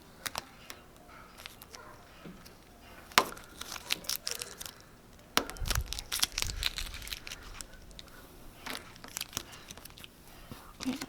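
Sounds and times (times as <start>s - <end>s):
sheet crinkling and peeling: 0.0s - 11.0s.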